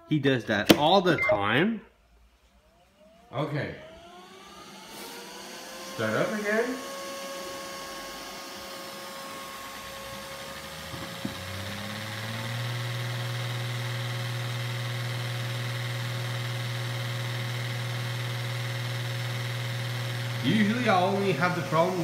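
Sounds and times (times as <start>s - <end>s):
robot vacuum motor running: 3.0s - 22.0s.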